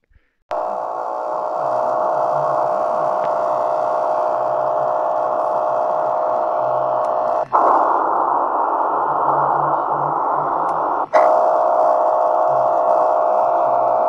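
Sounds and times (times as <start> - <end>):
radio static hiss: 0.5 - 14.0
steady radio buzz: 0.5 - 14.0.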